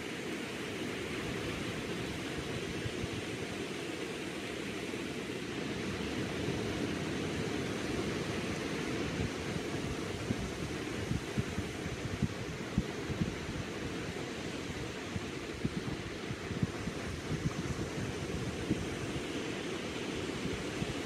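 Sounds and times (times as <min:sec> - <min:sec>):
small waves washing onto beach: 0:00.0 - 0:21.0.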